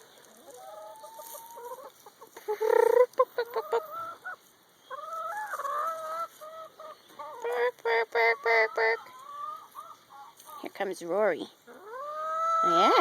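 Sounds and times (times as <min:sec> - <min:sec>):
hens clucking and calling: 0:00.0 - 0:13.0.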